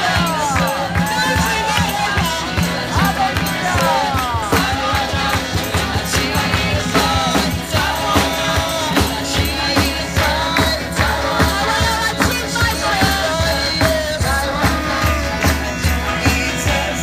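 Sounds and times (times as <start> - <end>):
guitar: 0.0 - 17.0
person singing: 0.0 - 17.0
steady drum beat: 0.0 - 17.0.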